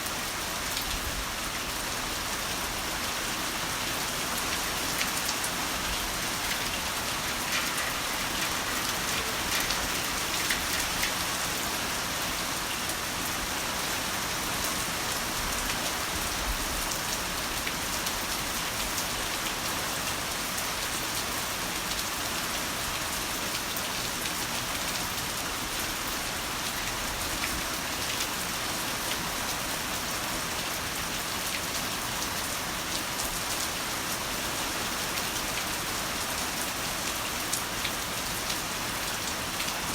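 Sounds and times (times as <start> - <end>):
heavy rain hissing: 0.0 - 39.9
raindrops ticking close by: 2.5 - 39.9.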